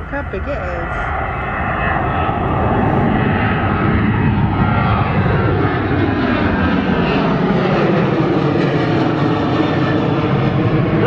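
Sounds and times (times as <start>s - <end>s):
airliner engines roaring overhead: 0.0s - 11.0s.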